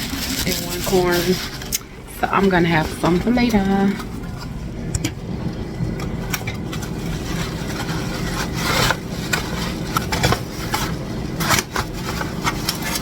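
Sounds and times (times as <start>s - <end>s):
food scraping and rubbing: 0.0s - 4.7s, 5.4s - 13.0s
steady low hum: 0.0s - 13.0s.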